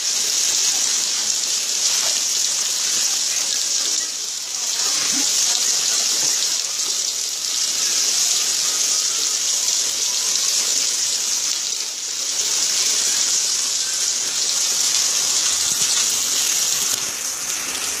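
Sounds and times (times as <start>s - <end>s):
rain falling steadily: 0.0s - 18.0s.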